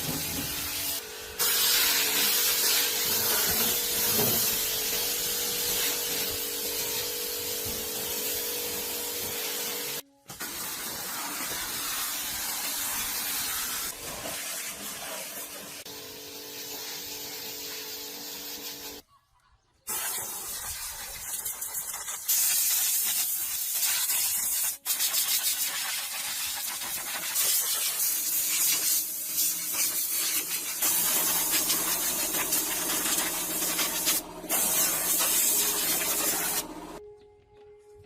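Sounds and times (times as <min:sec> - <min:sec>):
hissing spray: 0:00.0 - 0:19.0, 0:19.9 - 0:37.0.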